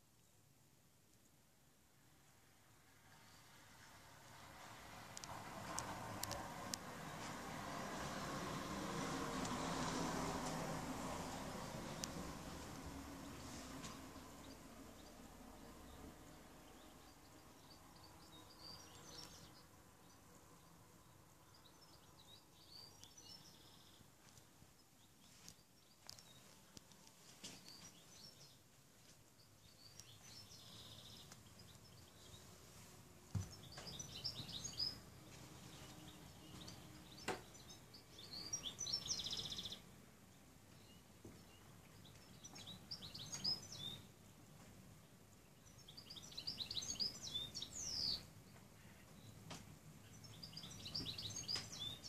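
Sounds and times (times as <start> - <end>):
songbirds chirping and trilling: 2.7 - 52.0.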